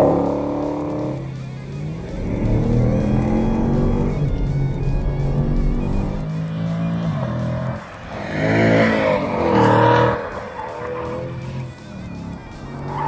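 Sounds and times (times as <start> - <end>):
background music: 0.0 - 13.0
car engine revving: 0.0 - 13.0.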